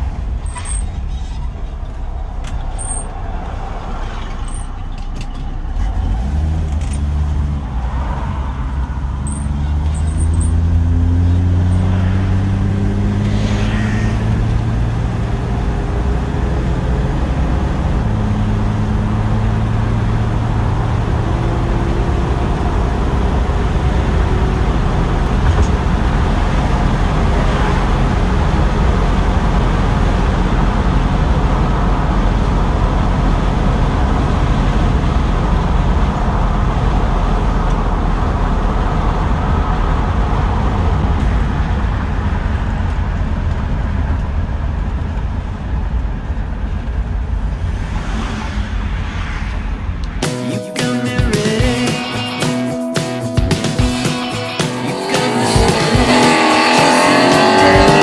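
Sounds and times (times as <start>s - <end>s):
car engine accelerating: 0.0s - 50.7s, 52.8s - 58.0s
road and tyre noise: 0.0s - 58.0s.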